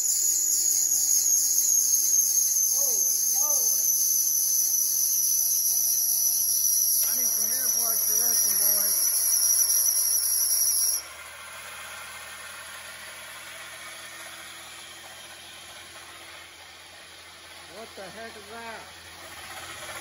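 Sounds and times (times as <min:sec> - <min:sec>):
engine belt screech: 0:00.0 - 0:20.0.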